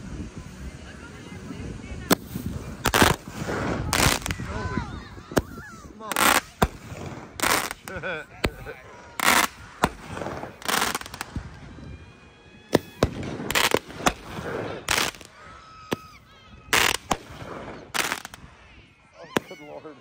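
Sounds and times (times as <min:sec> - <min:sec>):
fireworks crackling: 0:00.0 - 0:20.0
fireworks bangs: 0:01.5 - 0:19.8.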